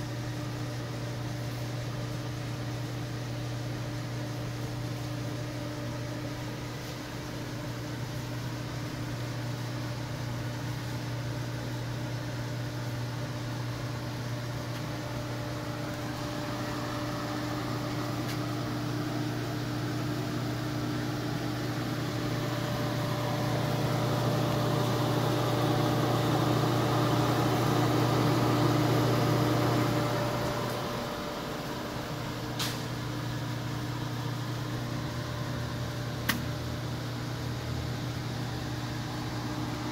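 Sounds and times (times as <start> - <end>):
oven motor and fan hum: 0.0 - 39.9.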